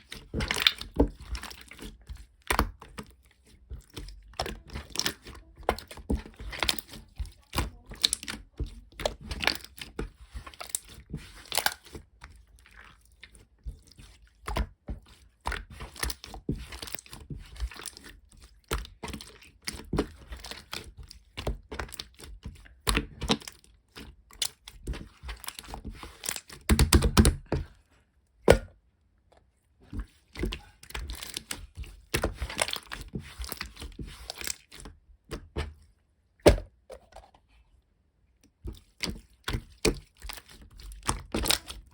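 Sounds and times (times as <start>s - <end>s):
crinkling and crunching handling noise: 0.0s - 28.4s, 29.1s - 37.8s, 38.4s - 41.9s.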